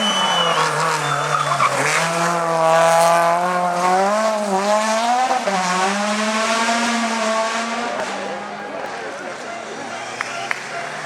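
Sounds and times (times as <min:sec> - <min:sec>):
rally car engine revving high: 0:00.0 - 0:11.0.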